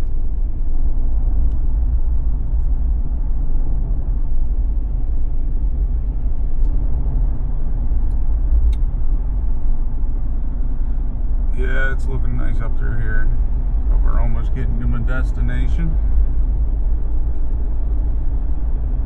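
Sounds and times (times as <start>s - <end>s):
engine and road noise in car: 0.0s - 19.0s.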